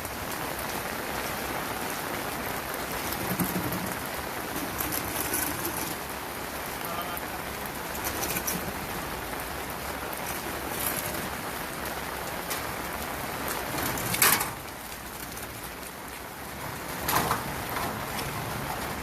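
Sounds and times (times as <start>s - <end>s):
rain drumming on surfaces: 0.0s - 19.0s.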